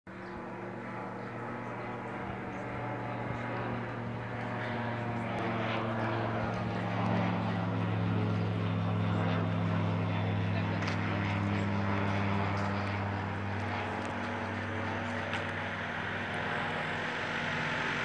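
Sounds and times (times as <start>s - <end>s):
light airplane flying overhead: 0.1s - 18.0s.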